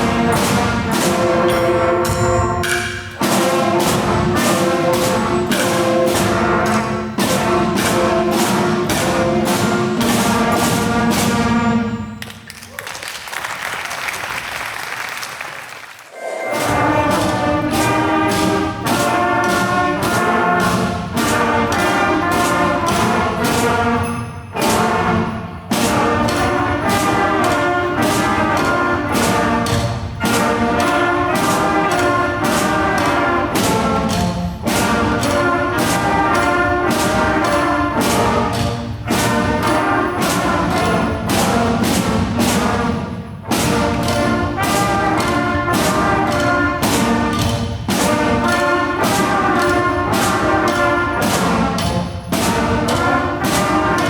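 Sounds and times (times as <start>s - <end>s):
brass band playing: 0.0s - 12.5s, 16.1s - 54.0s
drum hits: 0.0s - 12.5s, 16.5s - 54.0s.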